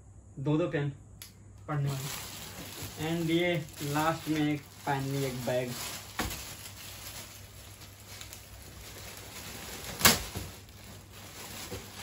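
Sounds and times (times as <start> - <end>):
plastic wrapping rustling: 1.7 - 12.0
sharp plastic crackle: 1.7 - 12.0.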